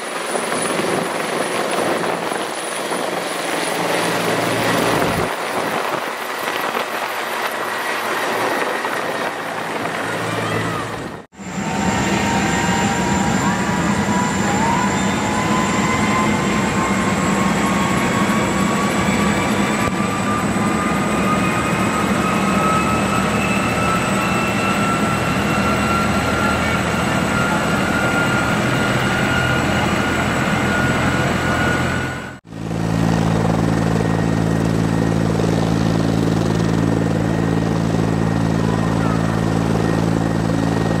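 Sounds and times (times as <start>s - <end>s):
helicopter overhead: 0.0s - 41.0s
low rotor drone: 0.0s - 41.0s
turbine engines whining: 0.0s - 41.0s.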